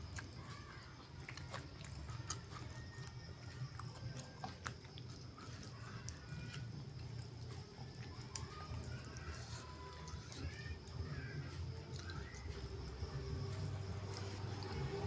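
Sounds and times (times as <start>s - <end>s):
chewing and biting: 0.0s - 15.0s.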